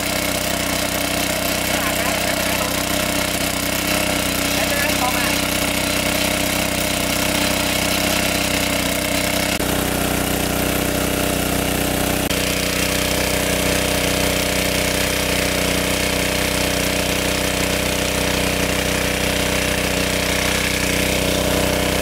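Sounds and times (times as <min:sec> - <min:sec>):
petrol water pump running: 0:00.0 - 0:22.0.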